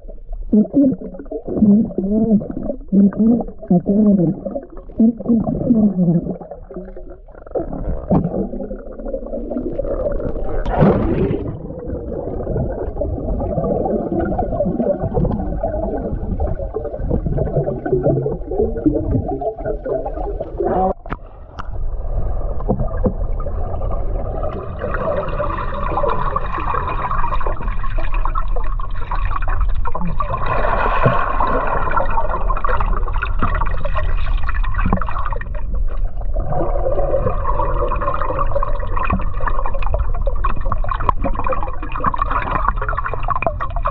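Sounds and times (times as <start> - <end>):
muffled underwater water churning: 0.0 - 43.9.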